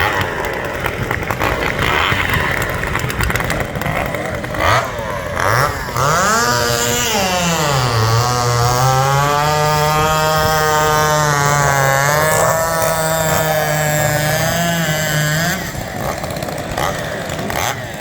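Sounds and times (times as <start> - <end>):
chainsaw engine revving: 0.0 - 18.0.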